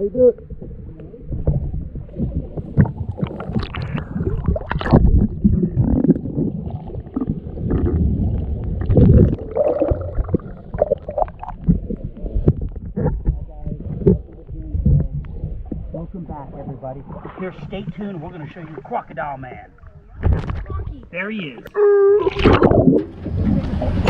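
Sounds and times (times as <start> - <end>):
low rumble: 0.0 - 21.1, 22.3 - 24.0
water sloshing and splashing: 0.0 - 21.1, 22.1 - 24.0.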